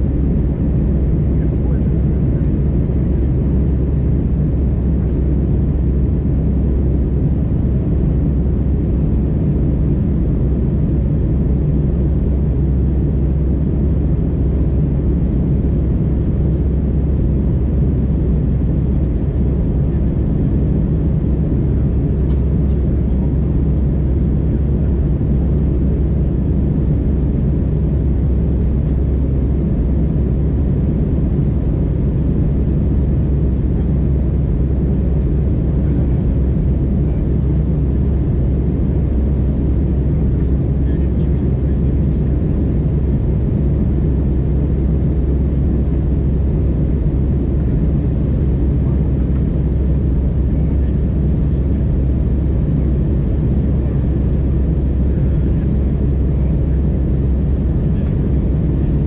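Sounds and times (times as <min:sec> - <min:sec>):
airliner cabin low rumble: 0:00.0 - 0:59.0.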